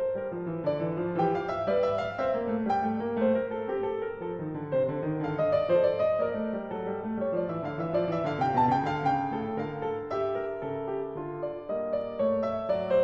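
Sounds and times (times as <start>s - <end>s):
classical piano music: 0.0s - 13.0s.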